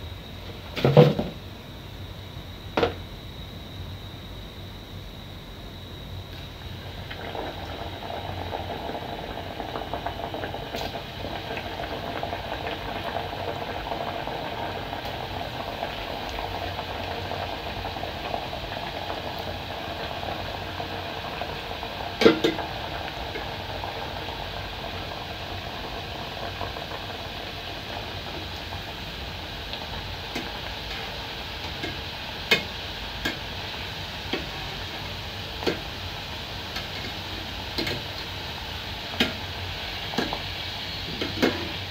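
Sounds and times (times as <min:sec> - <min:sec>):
dough sizzling in hot oil: 0:06.0 - 0:41.9.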